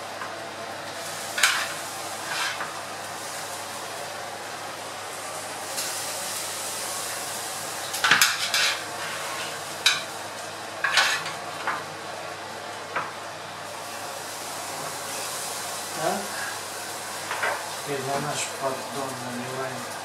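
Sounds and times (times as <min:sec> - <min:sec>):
steady hiss: 0:00.0 - 0:12.3, 0:13.3 - 0:20.0.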